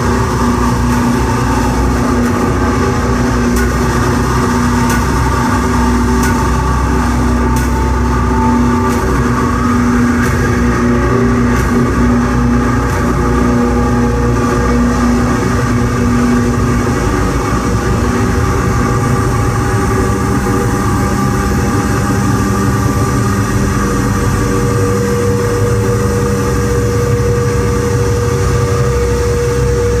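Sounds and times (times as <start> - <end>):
rumbling electronic noise: 0.0 - 30.0
steady drone tones: 0.0 - 30.0.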